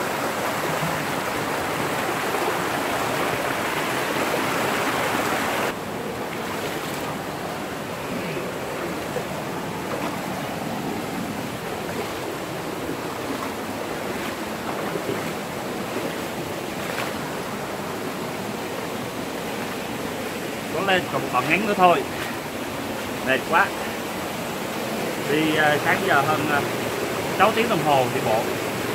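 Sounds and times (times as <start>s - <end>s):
mountain stream rushing over rocks: 0.0s - 28.9s.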